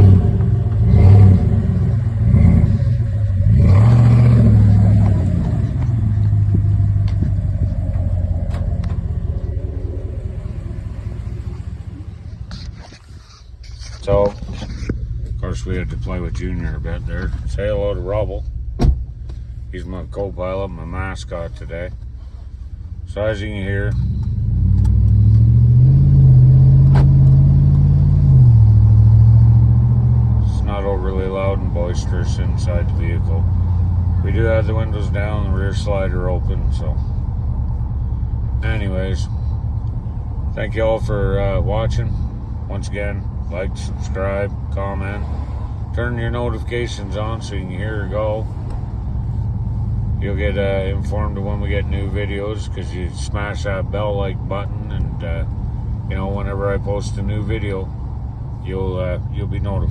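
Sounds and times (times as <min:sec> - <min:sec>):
car engine revving: 0:00.0 - 0:59.9
exhaust rumble: 0:00.0 - 0:59.9.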